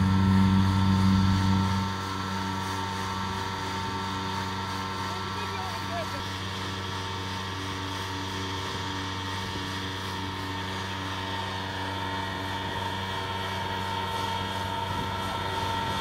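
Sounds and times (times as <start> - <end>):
tractor engine hum: 0.0 - 16.0.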